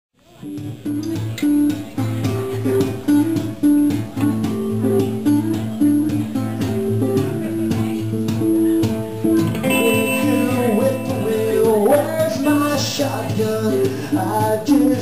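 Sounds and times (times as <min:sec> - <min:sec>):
guitar picking chords: 0:00.4 - 0:15.0.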